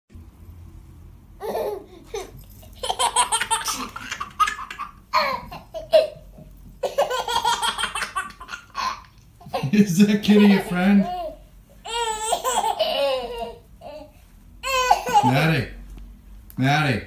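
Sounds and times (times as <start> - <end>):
baby giggling: 1.4 - 15.4.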